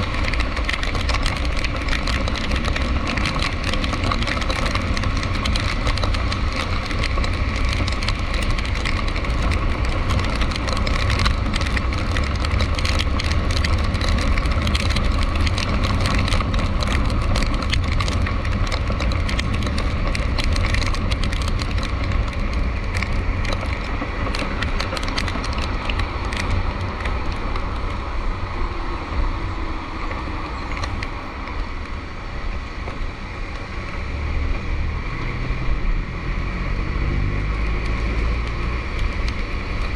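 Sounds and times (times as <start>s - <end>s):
rain hiss and wet spray: 0.0s - 39.9s
vehicle engine and road rumble: 0.0s - 39.9s.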